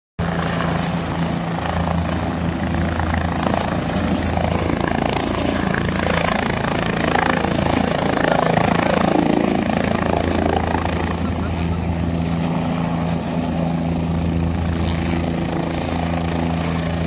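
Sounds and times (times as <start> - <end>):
helicopter rotor hum: 0.2 - 17.0.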